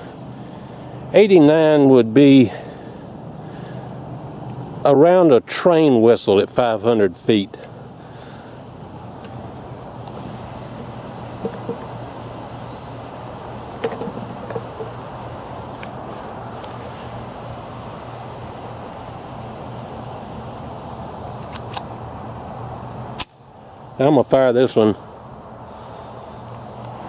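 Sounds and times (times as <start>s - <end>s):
background hiss: 0.0s - 27.0s
high-pitched insect chorus: 0.0s - 27.0s.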